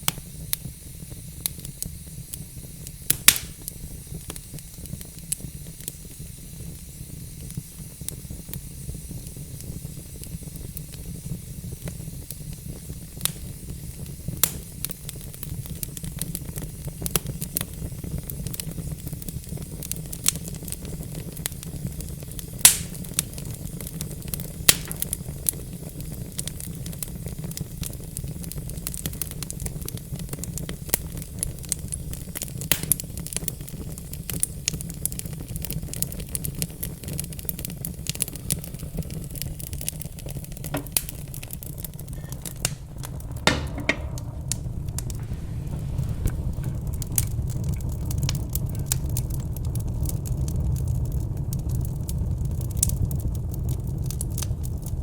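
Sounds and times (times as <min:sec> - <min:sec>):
low rumble of flame: 0:00.0 - 0:55.0
wood fire crackling: 0:00.0 - 0:55.0.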